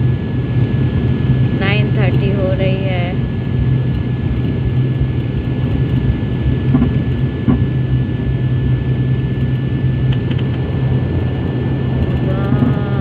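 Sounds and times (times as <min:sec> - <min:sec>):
airliner engines humming: 0:00.0 - 0:13.0
thin steady whine: 0:00.0 - 0:13.0.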